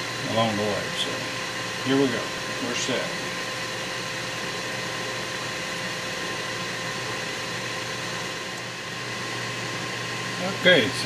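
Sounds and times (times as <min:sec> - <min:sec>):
grill fan whirring: 0:00.0 - 0:11.0.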